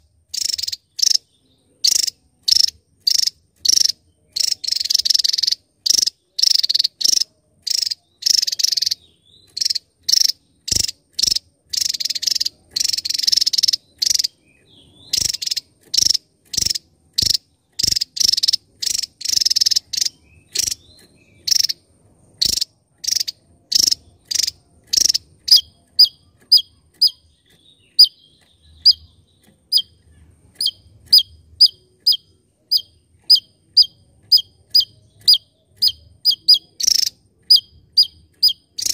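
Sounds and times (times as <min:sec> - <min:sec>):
bird buzzy song bursts: 0:00.0 - 0:38.9.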